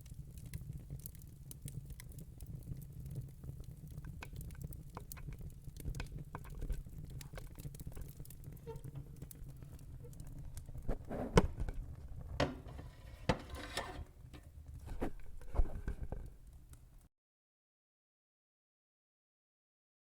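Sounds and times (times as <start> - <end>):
fire crackling and popping: 0.0 - 17.1.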